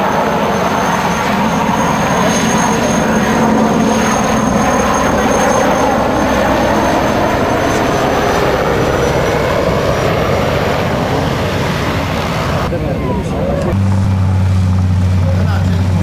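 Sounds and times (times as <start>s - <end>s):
helicopter rotor and turbine noise: 0.0s - 16.0s.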